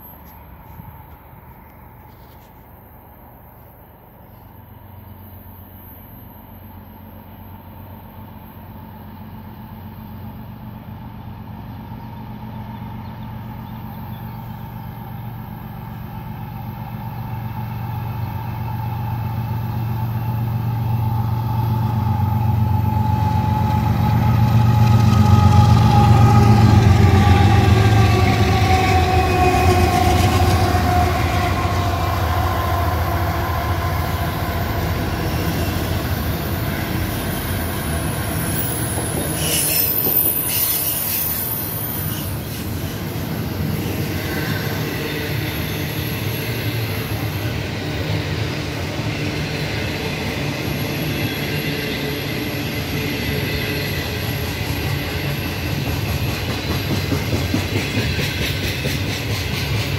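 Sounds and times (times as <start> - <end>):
locomotive engine drone: 0.0 - 59.9
locomotive whine: 0.0 - 59.9.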